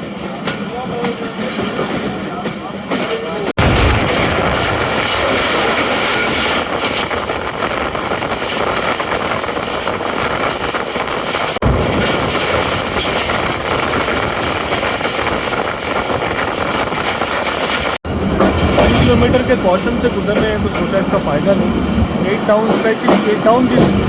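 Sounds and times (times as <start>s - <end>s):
moving train rushing: 0.0s - 24.0s.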